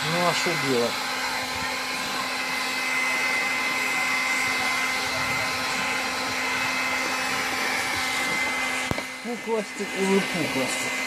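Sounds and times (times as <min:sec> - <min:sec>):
heat gun fan humming: 0:00.0 - 0:11.0.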